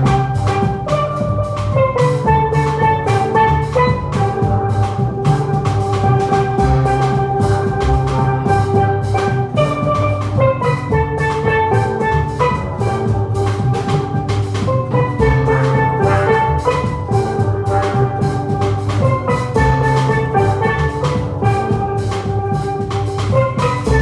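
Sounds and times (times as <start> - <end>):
live band playing hymn tune: 0.0 - 24.0
steady drumbeat: 0.0 - 24.0.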